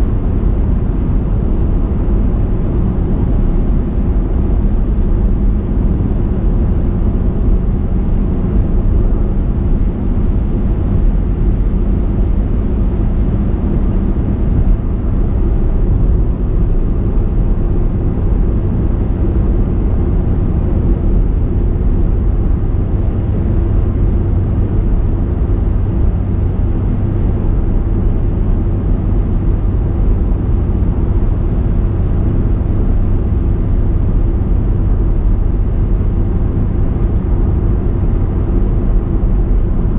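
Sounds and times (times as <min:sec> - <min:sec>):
car engine: 0:00.0 - 0:39.9
tyre road noise: 0:00.0 - 0:39.9.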